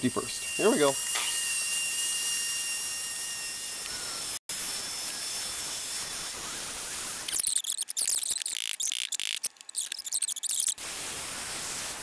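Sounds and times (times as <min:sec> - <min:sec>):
angle grinder grinding metal: 0:00.0 - 0:12.0.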